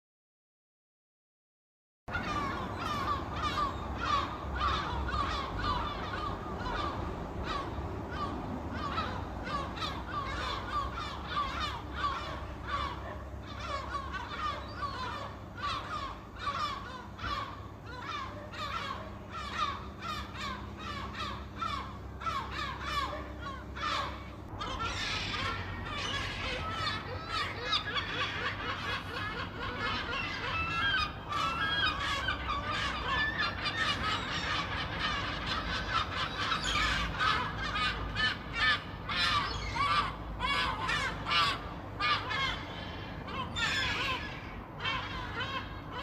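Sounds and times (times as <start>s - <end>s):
many birds calling: 2.1s - 46.0s.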